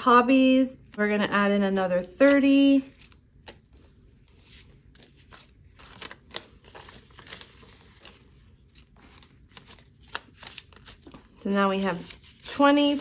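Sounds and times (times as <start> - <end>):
paper banknotes rustling: 1.6 - 13.0.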